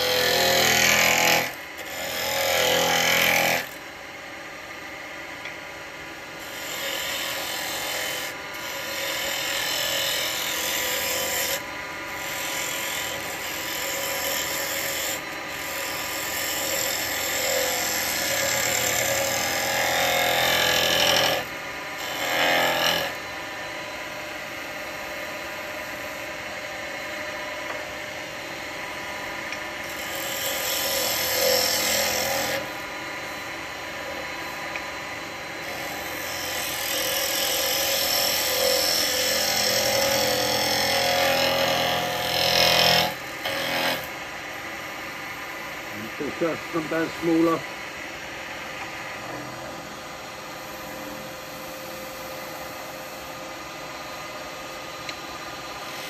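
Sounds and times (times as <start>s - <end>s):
lathe motor hum: 5.5s - 51.6s.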